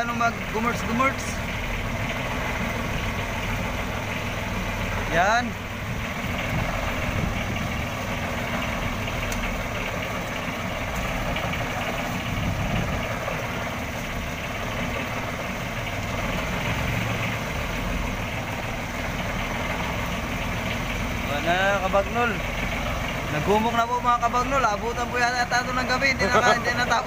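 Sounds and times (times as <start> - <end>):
boat engine running: 0.0 - 27.0.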